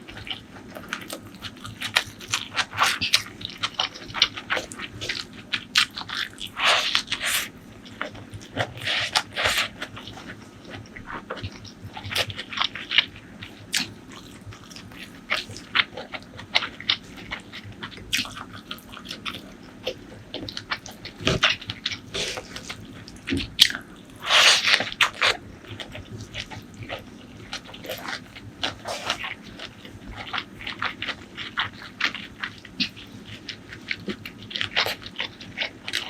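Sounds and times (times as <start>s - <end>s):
wet chewing and mouth clicks: 0.1s - 36.0s.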